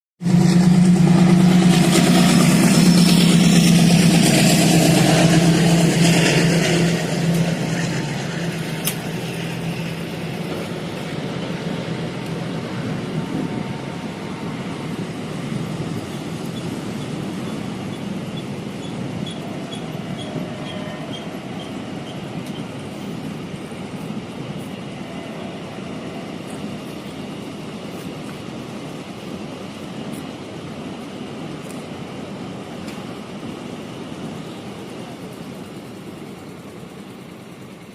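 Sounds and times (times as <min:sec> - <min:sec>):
train rumbling along track: 0:00.2 - 0:37.9.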